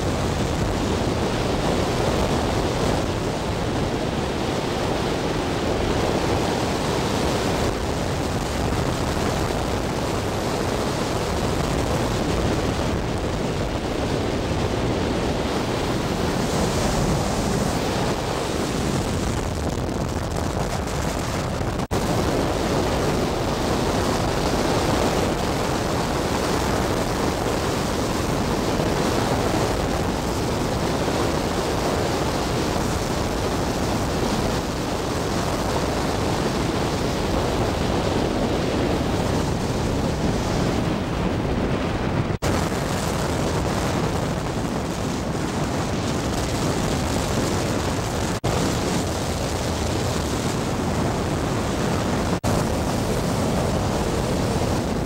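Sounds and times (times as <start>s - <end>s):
wind and road noise inside car: 0.0s - 55.0s
wind buffeting microphone: 0.0s - 55.0s.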